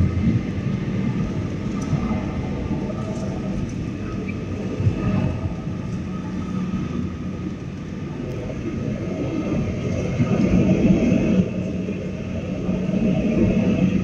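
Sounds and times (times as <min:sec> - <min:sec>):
airliner cabin jet engine roar: 0:00.0 - 0:14.0.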